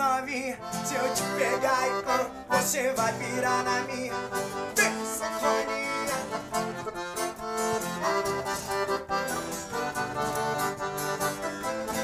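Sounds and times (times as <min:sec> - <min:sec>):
strummed acoustic guitar: 0:00.0 - 0:12.0
accordion playing lively melody: 0:00.1 - 0:12.0.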